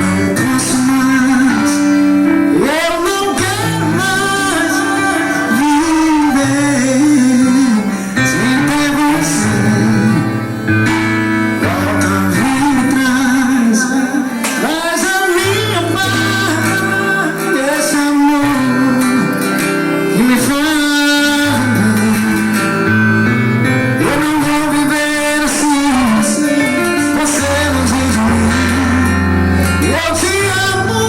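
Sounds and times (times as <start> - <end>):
person singing: 0.0 - 31.0
plucked guitar: 0.0 - 31.0.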